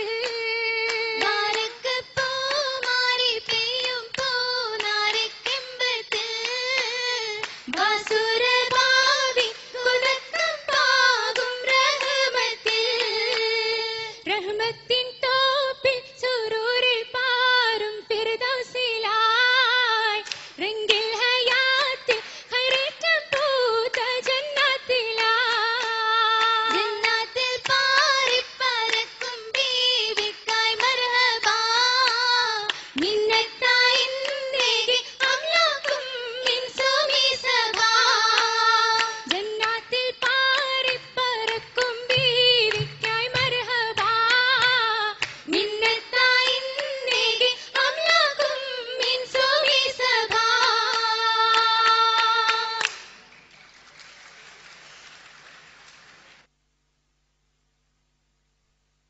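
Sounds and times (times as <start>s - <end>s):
rhythmic hand-claps: 0.0s - 14.9s, 20.1s - 56.5s
girls singing in unison: 0.0s - 53.0s.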